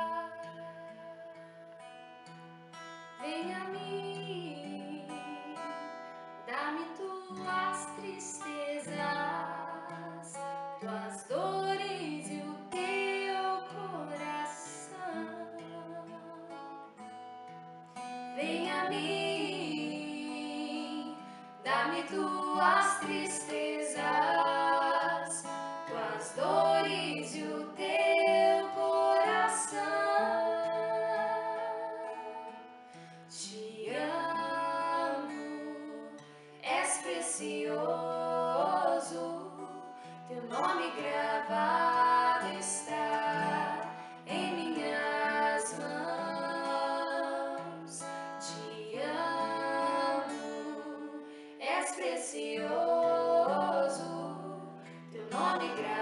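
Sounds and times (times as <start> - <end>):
women singing: 0.0 - 2.0, 3.2 - 17.2, 18.1 - 56.0
acoustic guitar: 0.0 - 56.0.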